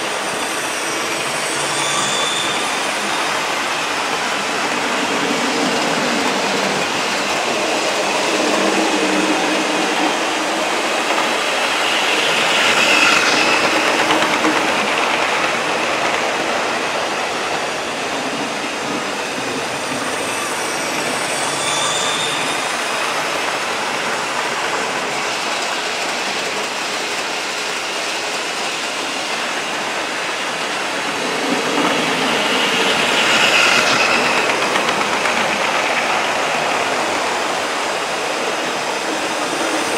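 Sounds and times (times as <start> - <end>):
high squeal of wheels: 0.0 - 39.9
model trains whirring and rattling: 0.0 - 39.9.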